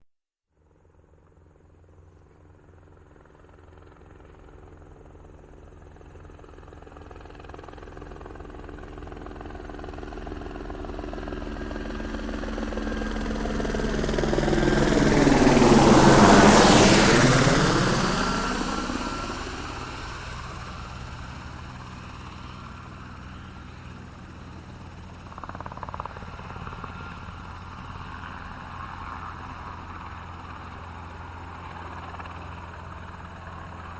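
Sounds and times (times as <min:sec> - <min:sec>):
helicopter flying past: 0:00.7 - 0:33.9.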